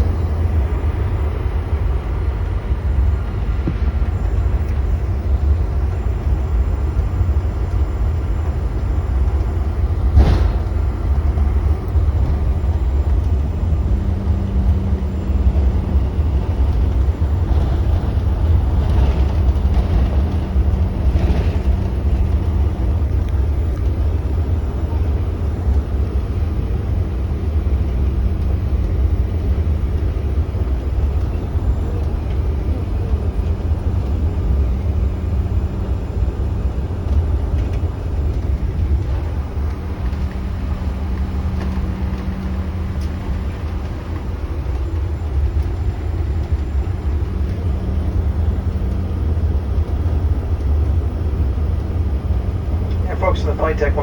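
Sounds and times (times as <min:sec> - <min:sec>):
low rumble of jet engines: 0:00.0 - 0:54.0.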